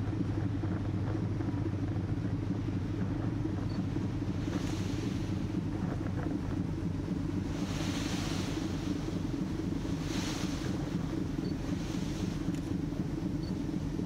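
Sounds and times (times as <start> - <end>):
rush of bow wake: 0.0 - 14.0
ship engines droning: 0.0 - 14.0
wind over deck: 0.0 - 14.0.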